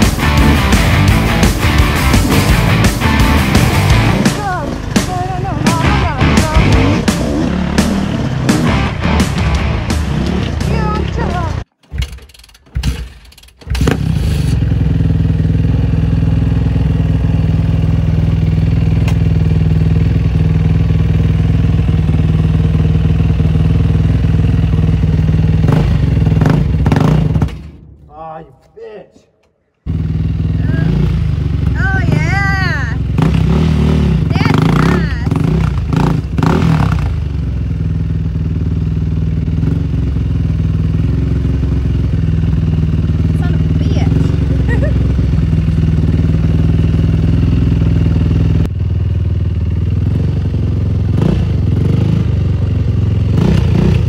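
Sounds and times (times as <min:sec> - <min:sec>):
dirt bike engine revving: 0:00.0 - 0:27.7, 0:29.8 - 0:48.7, 0:49.8 - 0:54.0.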